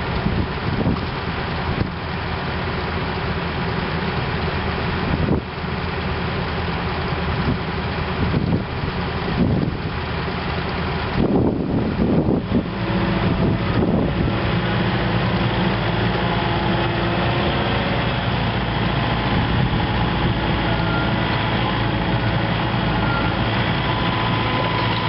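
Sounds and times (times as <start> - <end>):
diesel engine running at low revs: 0.0 - 25.0.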